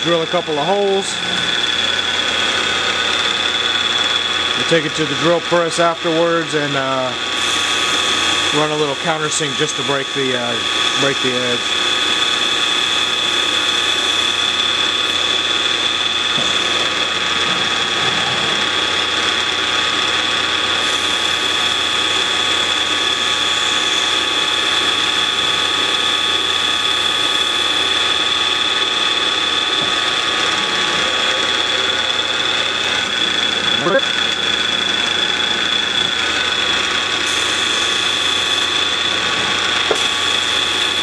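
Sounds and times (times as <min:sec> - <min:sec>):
coolant spray hissing: 0:00.0 - 0:17.9, 0:18.6 - 0:41.0
mill spindle whining: 0:00.0 - 0:41.0.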